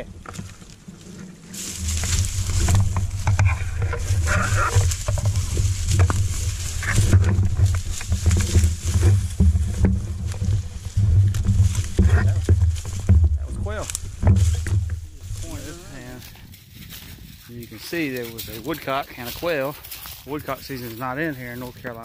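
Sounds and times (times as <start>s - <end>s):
brush rustling and crackling: 0.0s - 22.0s
microphone handling rumble: 0.0s - 22.0s.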